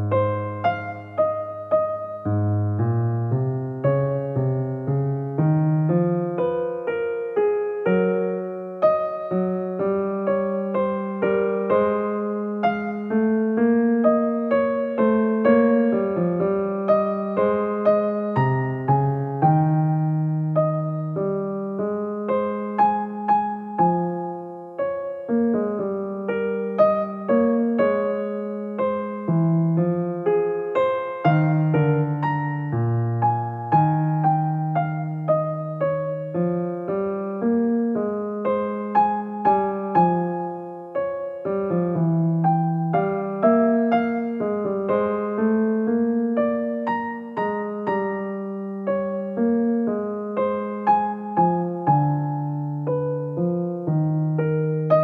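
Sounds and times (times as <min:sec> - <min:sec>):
gentle piano tune: 0:00.0 - 0:55.0.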